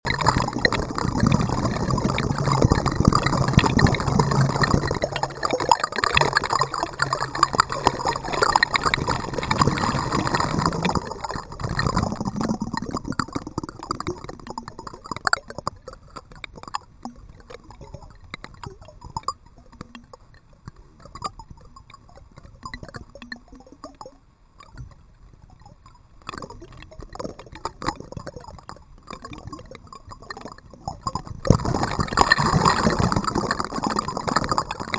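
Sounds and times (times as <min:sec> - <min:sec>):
small water splashes and drips: 0:00.1 - 0:34.9.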